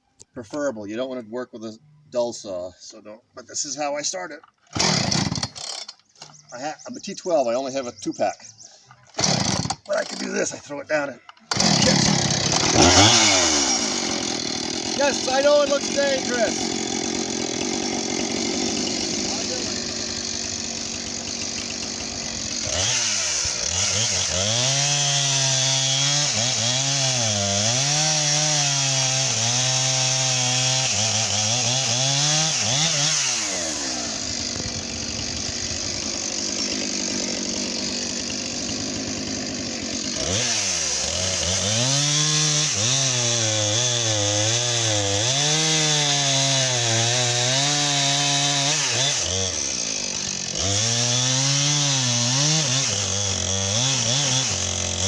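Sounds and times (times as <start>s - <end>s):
chainsaw cutting log: 4.7s - 6.4s, 9.1s - 10.5s, 11.4s - 55.0s.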